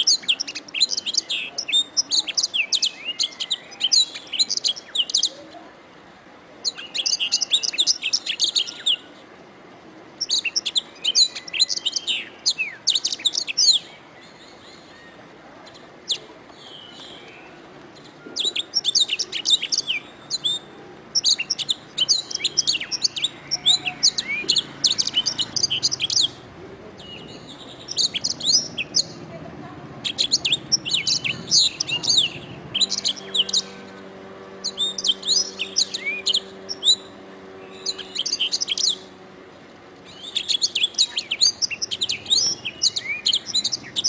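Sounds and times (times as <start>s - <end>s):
canary singing: 0.0s - 5.6s, 6.6s - 9.2s, 10.2s - 44.0s.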